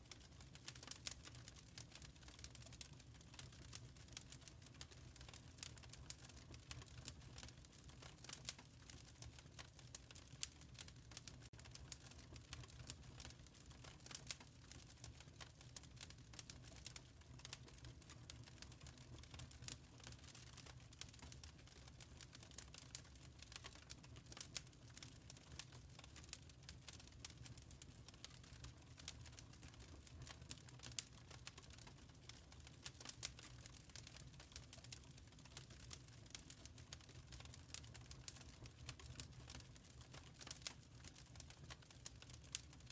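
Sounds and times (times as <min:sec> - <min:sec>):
fire crackling in a fireplace: 0:00.0 - 0:42.9.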